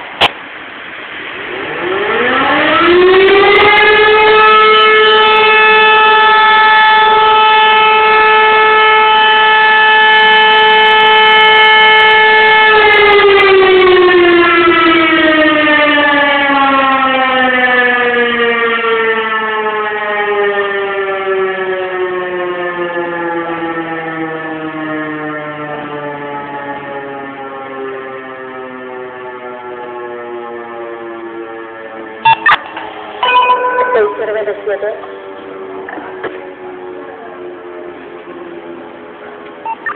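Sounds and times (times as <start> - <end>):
siren wailing: 1.1 - 39.9.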